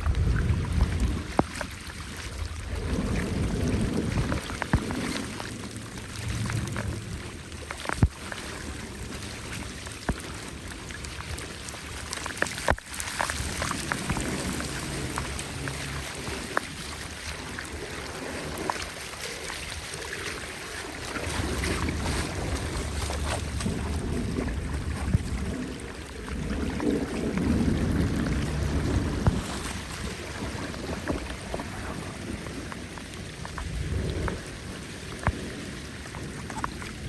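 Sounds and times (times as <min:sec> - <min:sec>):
running water: 0:00.0 - 0:37.0
wind buffeting microphone: 0:00.0 - 0:37.0.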